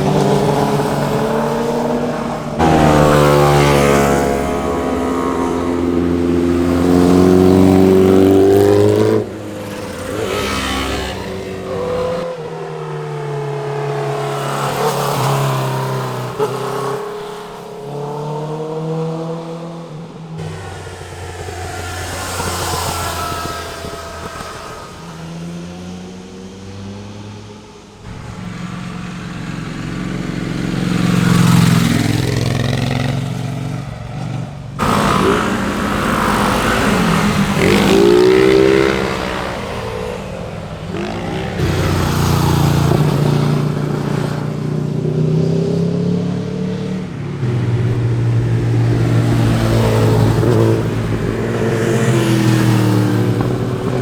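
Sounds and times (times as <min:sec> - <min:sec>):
motorcycles passing at speed: 0:00.0 - 0:54.0.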